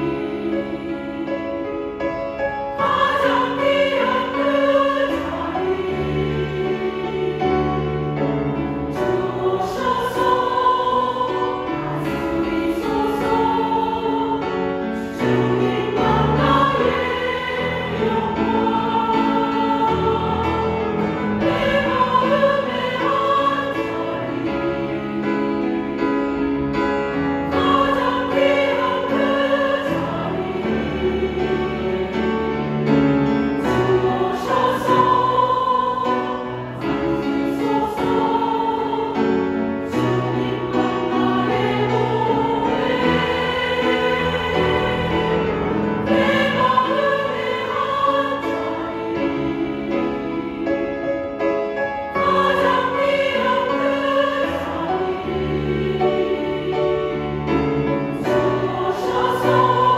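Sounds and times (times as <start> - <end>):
piano accompaniment: 0.0 - 59.9
women's choir singing a hymn: 0.0 - 59.9.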